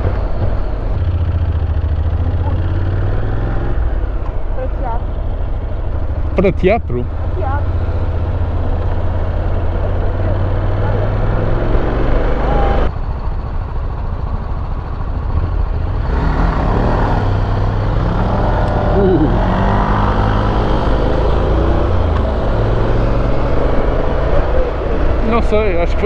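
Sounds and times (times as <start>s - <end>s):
motorcycle engine running: 0.0s - 26.0s
road and wind noise: 0.0s - 26.0s.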